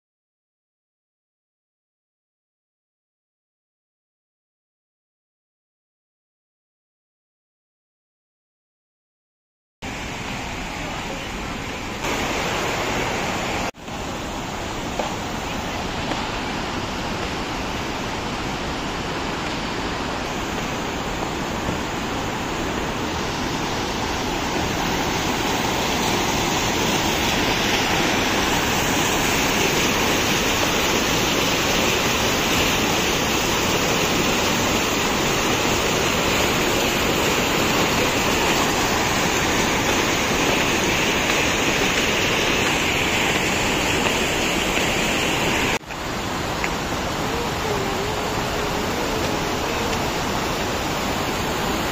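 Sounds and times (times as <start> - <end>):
water rushing over rocks: 9.9 - 51.9.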